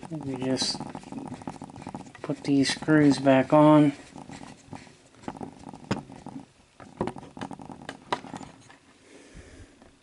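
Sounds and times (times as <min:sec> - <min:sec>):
handling noise: 0:00.0 - 0:09.0.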